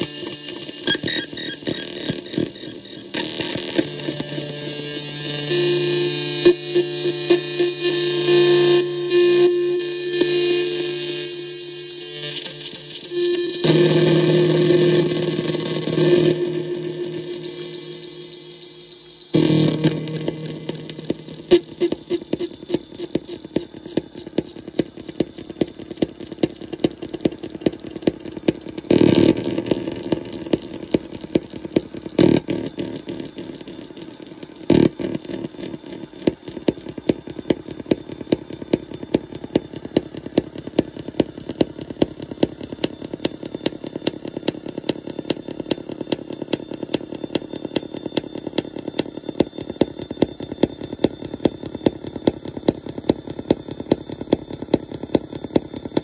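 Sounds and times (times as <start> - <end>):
buzzy clicking synthesizer drone: 0.0 - 56.0.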